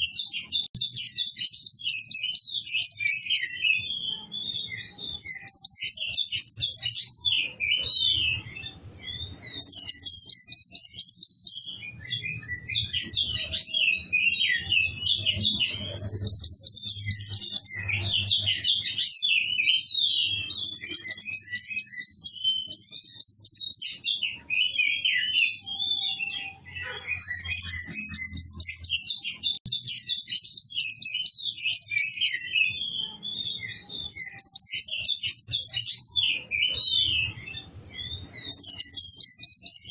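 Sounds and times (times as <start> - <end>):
chattering and twittering notes: 0.0 - 39.9
songbird singing rapid trills: 0.0 - 39.9.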